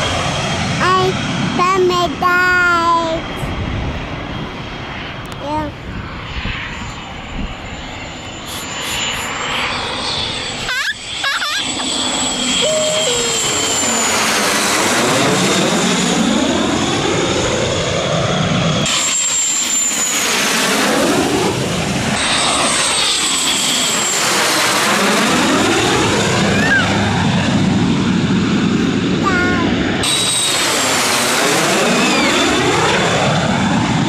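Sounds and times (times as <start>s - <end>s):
jet aircraft passing overhead: 0.0s - 34.0s.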